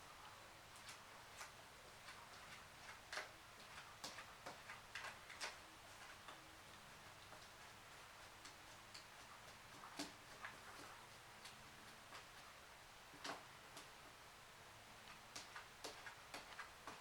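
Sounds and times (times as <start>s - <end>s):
faint irregular clicks and taps: 0.2s - 14.1s, 15.0s - 17.0s.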